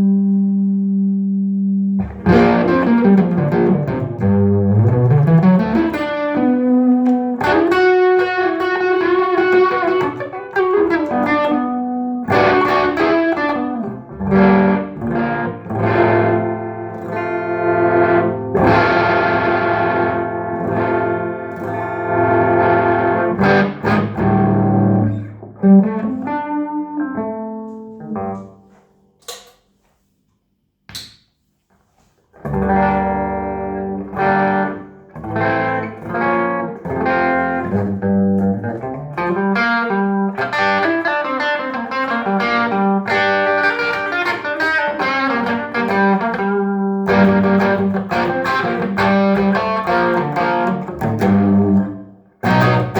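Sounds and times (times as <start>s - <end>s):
electric guitar chords: 0.0s - 28.7s, 32.4s - 52.9s.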